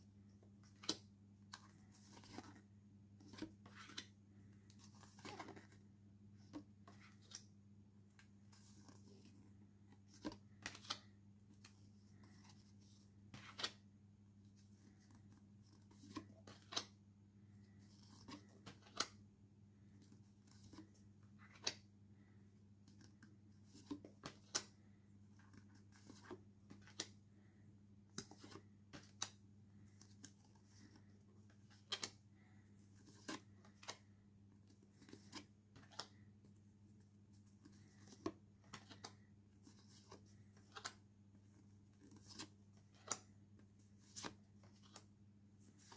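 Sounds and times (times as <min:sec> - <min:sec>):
faint steady hum: 0:00.0 - 0:45.9
postcards rustling and clicking: 0:00.4 - 0:07.5, 0:08.1 - 0:13.9, 0:14.5 - 0:19.2, 0:19.8 - 0:45.9.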